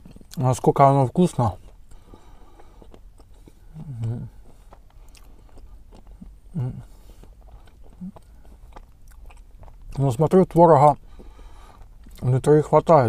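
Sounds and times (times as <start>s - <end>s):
person chewing pastry: 0.0s - 13.0s.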